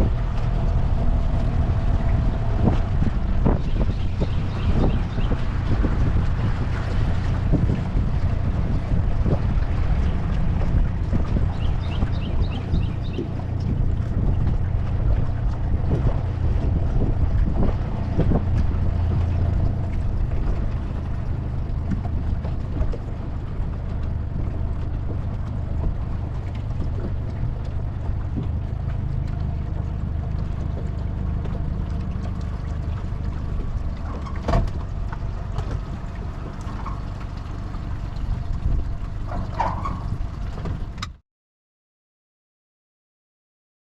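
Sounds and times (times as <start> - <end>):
outboard motor running: 0.0 - 41.2
wind and water rushing: 0.0 - 41.2.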